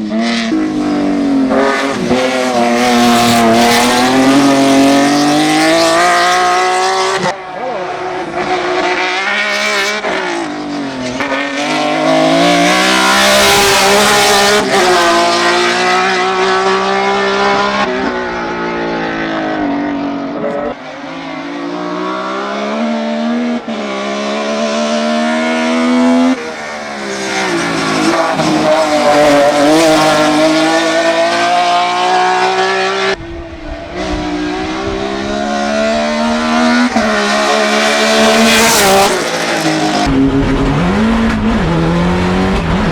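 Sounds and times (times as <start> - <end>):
race car engine at full throttle: 0.0 - 42.9.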